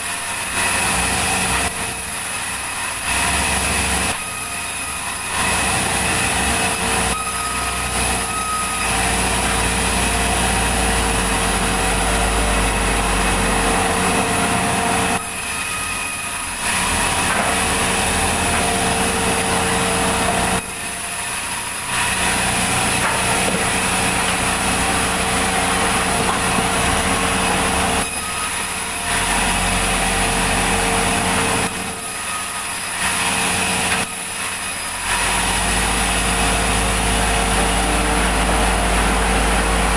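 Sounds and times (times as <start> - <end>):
sawmill sawing log: 0.0 - 39.9.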